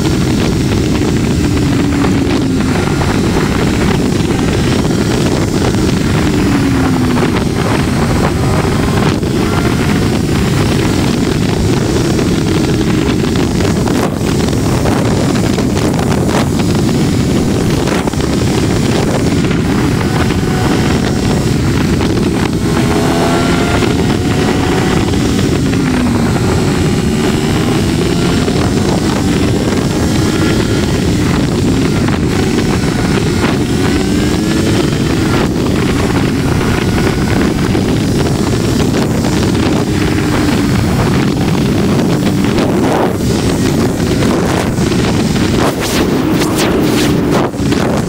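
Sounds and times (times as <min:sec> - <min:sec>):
motorcycle engine at road speed: 0:00.0 - 0:48.0
wind noise on microphone: 0:00.0 - 0:48.0.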